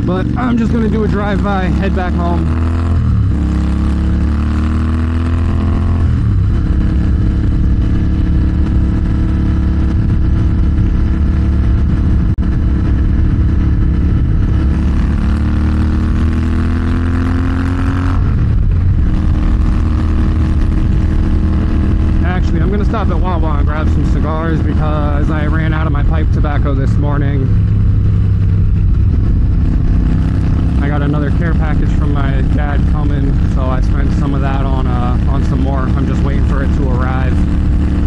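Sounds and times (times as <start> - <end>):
motorcycle engine shifting gears: 0.0 - 38.0
wind rush on microphone: 0.0 - 38.0.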